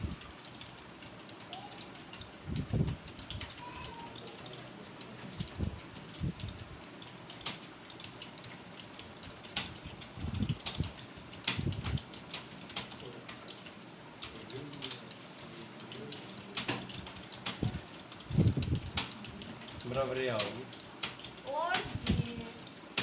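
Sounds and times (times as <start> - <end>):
keyboard typing: 0.0 - 23.0.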